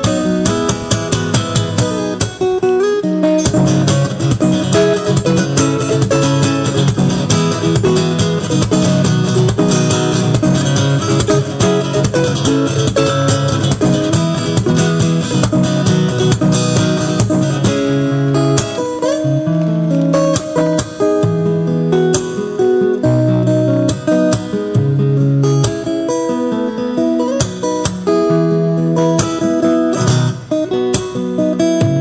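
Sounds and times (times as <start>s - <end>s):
guitar plucked and strummed: 0.0s - 32.0s.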